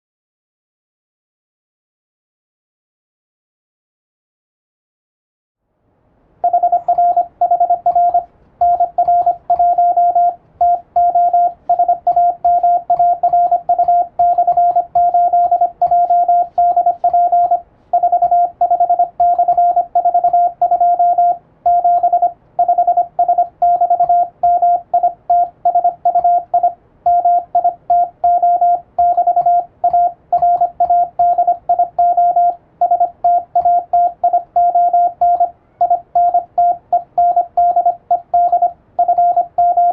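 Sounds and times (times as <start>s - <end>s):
morse code beeps: 6.4s - 39.9s.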